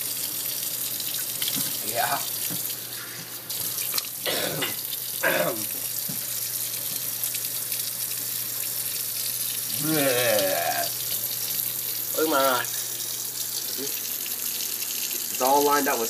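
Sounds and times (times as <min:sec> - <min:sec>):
tap water running into sink: 0:00.0 - 0:16.0.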